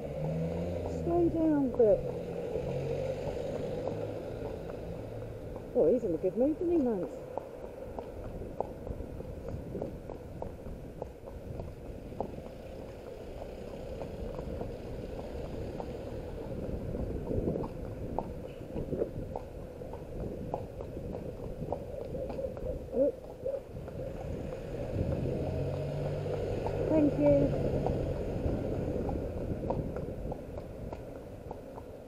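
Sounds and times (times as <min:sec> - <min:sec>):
hooves clicking on tarmac: 0:00.0 - 0:32.0.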